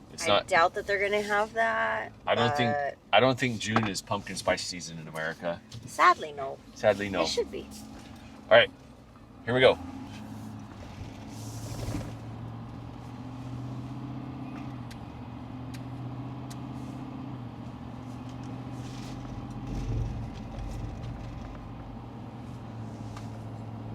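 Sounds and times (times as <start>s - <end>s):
vehicle engine and road hum: 0.0s - 23.9s.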